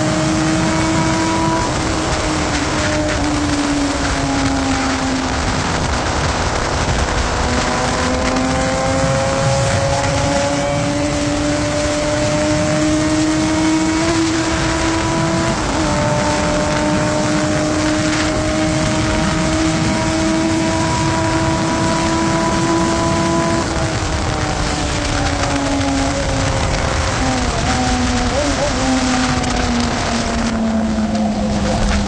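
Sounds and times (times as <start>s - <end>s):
motorcycle engine revving high: 0.0s - 32.0s.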